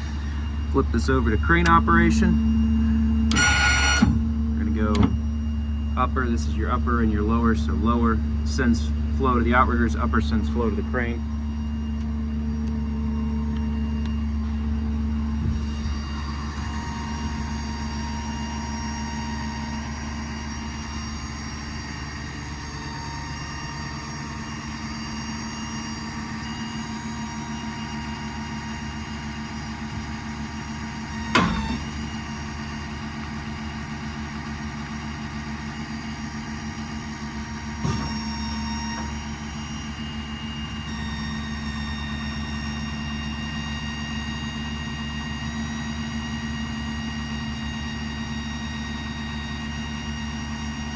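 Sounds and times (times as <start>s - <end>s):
diesel engine idling with whine: 0.0s - 50.9s.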